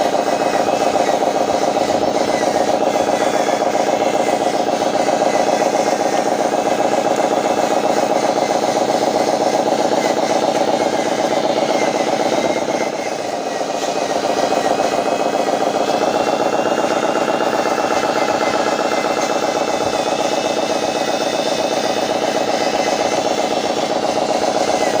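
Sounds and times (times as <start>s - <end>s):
model truck motor whining drone: 0.0s - 25.0s.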